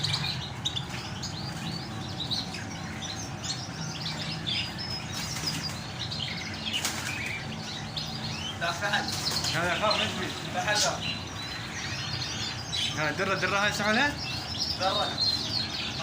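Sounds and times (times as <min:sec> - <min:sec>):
many birds chirping: 0:00.0 - 0:16.0.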